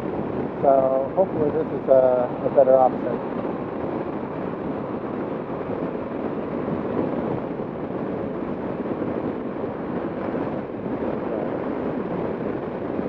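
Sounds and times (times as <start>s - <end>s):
wind rushing over helmet: 0.0s - 13.0s.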